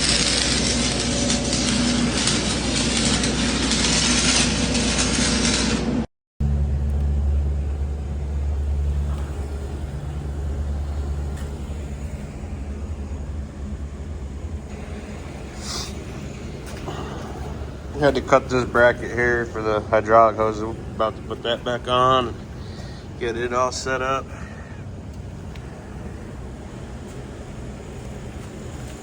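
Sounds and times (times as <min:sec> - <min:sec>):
engine humming: 0:00.0 - 0:29.0
welding arc crackling hiss: 0:00.0 - 0:29.0.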